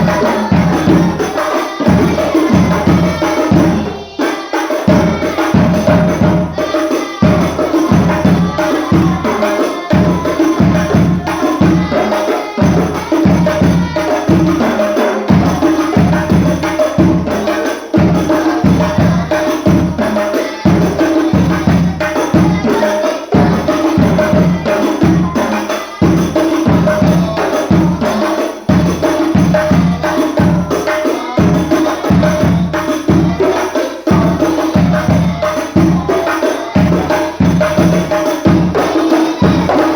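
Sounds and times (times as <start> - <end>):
frame drums and tambourine rhythm: 0.0 - 39.9.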